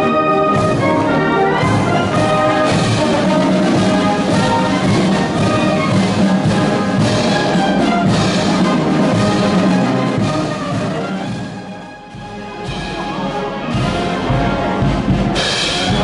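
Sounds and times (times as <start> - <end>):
military band playing a march: 0.0 - 16.0.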